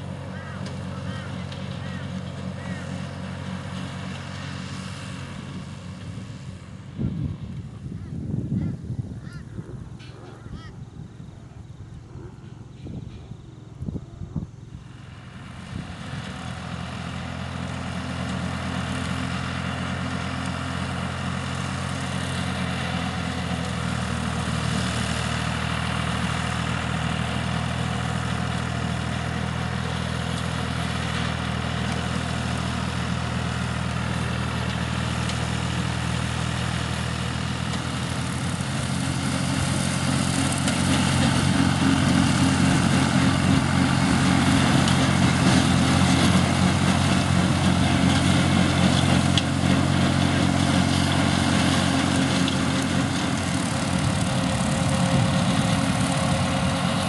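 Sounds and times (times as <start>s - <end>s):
tractor diesel engine mowing grass: 0.0s - 57.0s.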